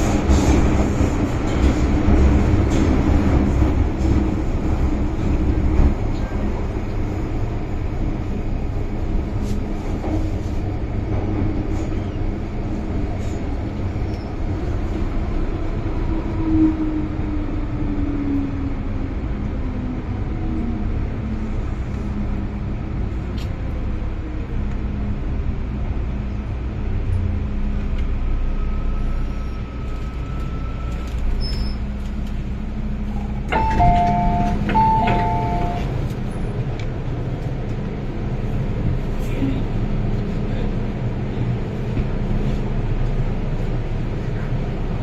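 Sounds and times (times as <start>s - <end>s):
train wheels and motors rumbling: 0.0s - 45.0s.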